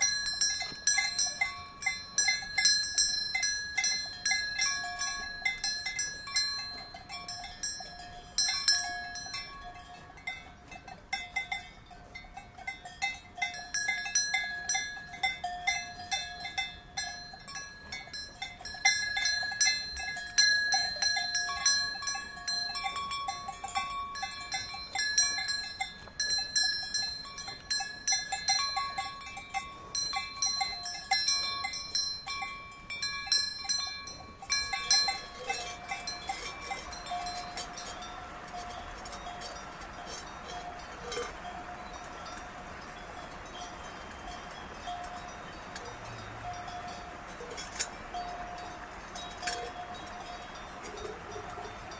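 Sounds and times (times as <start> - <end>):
cowbells clanking: 0.0 - 51.9.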